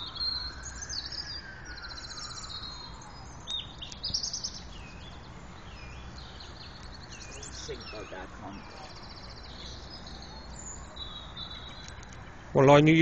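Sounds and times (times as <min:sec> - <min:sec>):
faint whine: 0:00.0 - 0:13.0
songbirds singing: 0:00.0 - 0:13.0.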